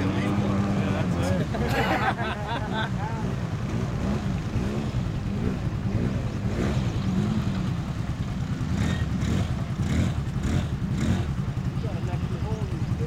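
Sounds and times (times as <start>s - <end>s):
quad engine revving: 0.0s - 13.0s.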